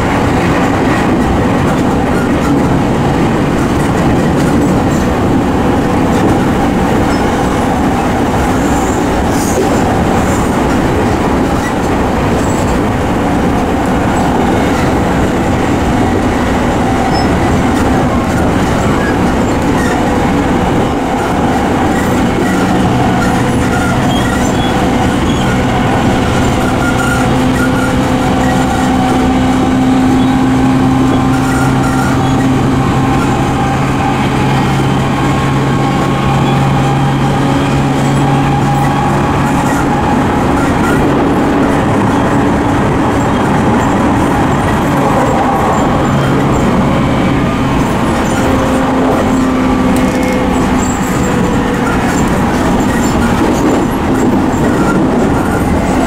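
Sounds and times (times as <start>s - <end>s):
train motor hum: 0.0s - 56.0s
train wheel and rail noise: 0.0s - 56.0s.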